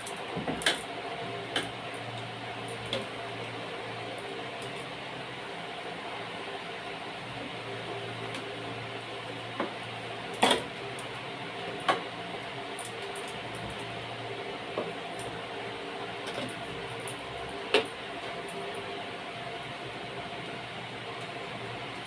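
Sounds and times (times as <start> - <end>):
steady room hum: 0.0 - 22.0.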